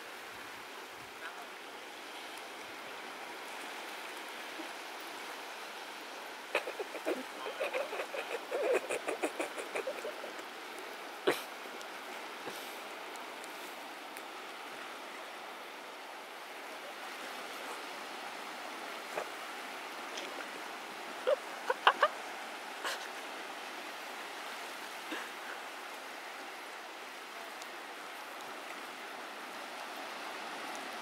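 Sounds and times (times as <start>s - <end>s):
small waves washing over rocks: 0.0s - 31.0s.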